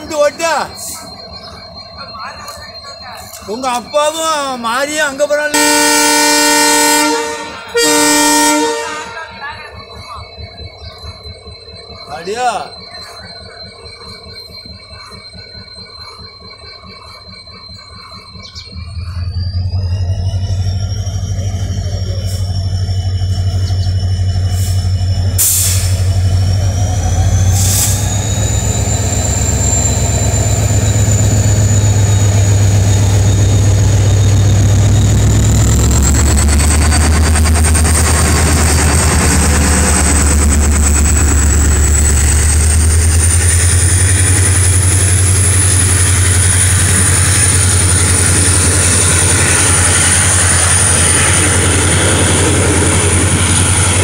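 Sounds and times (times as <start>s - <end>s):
train passing on rails: 0.0s - 54.0s.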